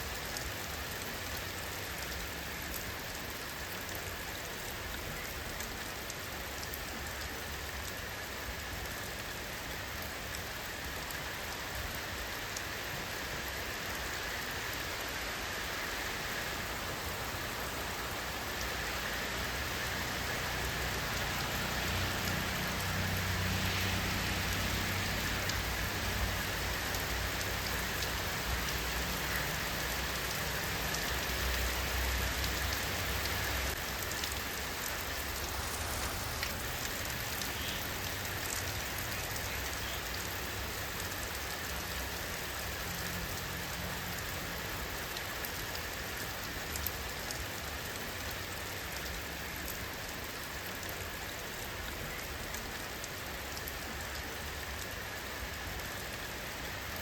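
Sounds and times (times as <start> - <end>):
rain falling on surfaces: 0.0 - 57.0.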